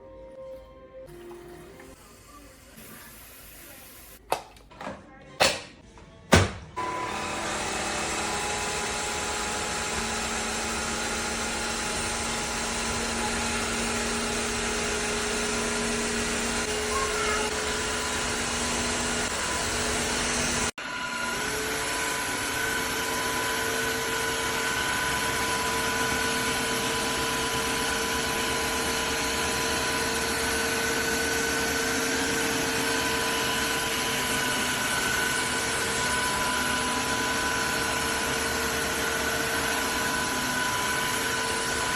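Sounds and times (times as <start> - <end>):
vacuum mop motor whine: 1.1 - 3.2, 6.8 - 41.9.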